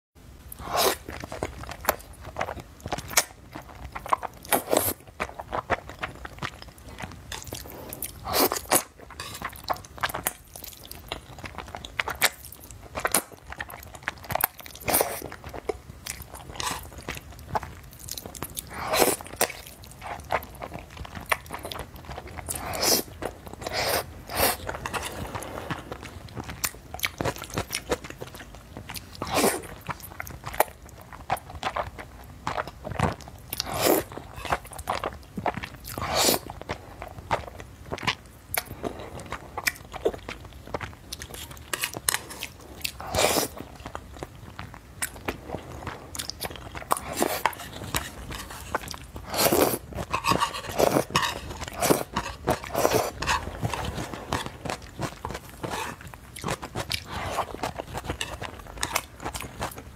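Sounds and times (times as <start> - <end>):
noodles slurped and chewed: 0.5 - 59.9.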